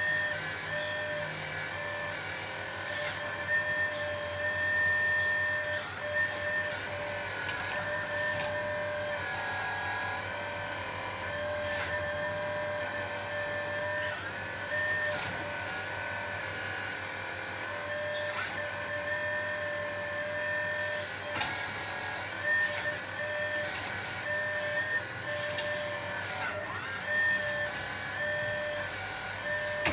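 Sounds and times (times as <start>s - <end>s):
small electric motor whining: 0.0s - 29.9s.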